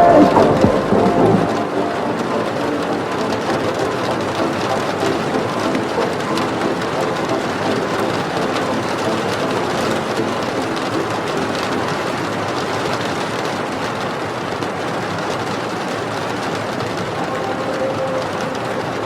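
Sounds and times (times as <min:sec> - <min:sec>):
raindrop ticks: 0:00.0 - 0:19.0
steady rain hiss: 0:00.0 - 0:19.0.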